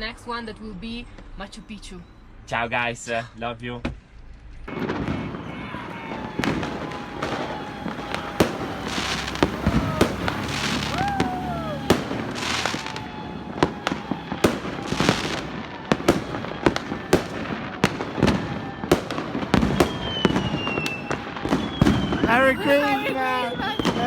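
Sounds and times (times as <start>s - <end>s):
fireworks bangs and crackles: 4.7s - 24.0s
fireworks whistle: 4.7s - 24.0s.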